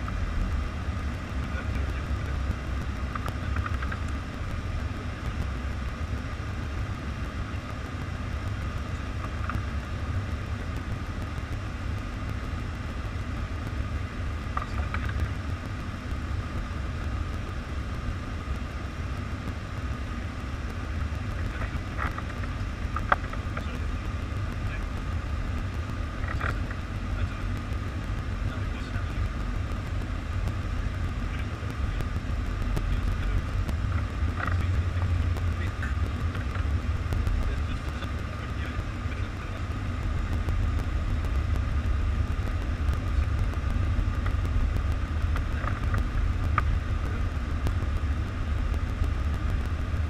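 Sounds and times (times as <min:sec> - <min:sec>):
airflow and engine rumble: 0:00.0 - 0:50.0.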